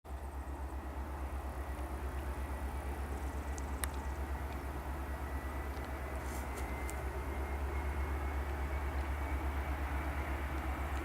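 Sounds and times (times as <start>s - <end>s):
faint jet engine whine: 0.1s - 11.0s
jet engines rumbling: 0.1s - 11.0s.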